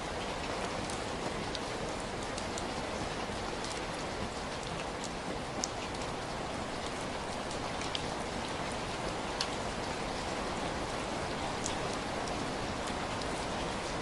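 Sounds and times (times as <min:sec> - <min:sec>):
raindrops ticking: 0:00.1 - 0:14.0.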